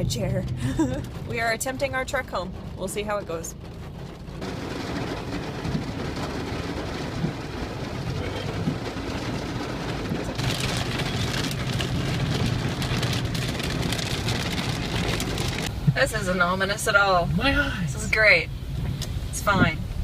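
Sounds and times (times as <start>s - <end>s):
car engine and road hum: 0.0s - 20.0s
rain on a car roof: 0.0s - 20.0s.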